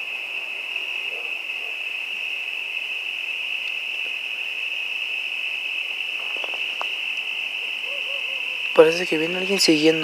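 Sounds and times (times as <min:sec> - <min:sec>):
night insects chirring: 0:00.0 - 0:10.0.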